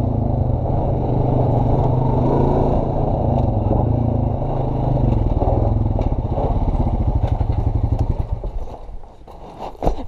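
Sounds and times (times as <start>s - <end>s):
atv engine running: 0.0s - 8.8s.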